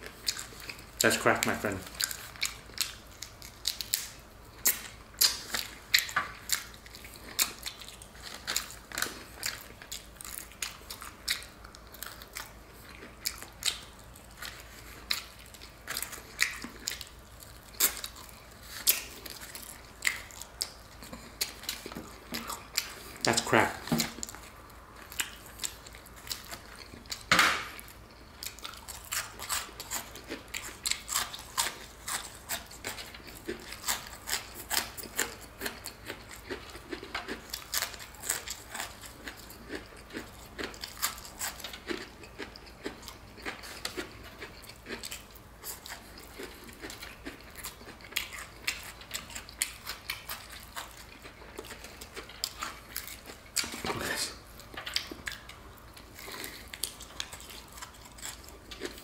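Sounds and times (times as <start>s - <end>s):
biting and chewing crispy food: 0.0s - 59.0s.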